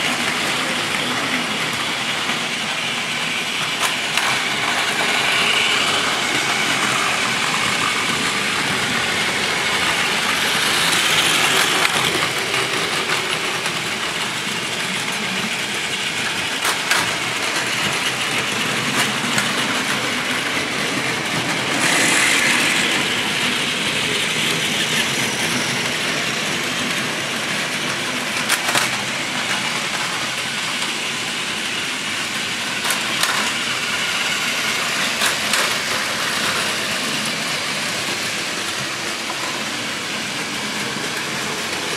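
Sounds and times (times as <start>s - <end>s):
toy trains whirring on track: 0.0s - 41.9s.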